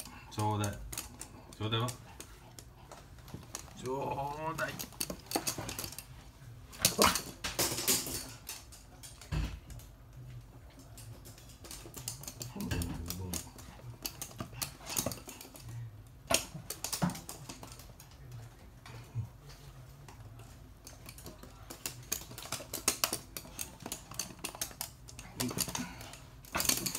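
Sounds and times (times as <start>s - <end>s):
dog claws clicking on floor: 0.0s - 26.9s.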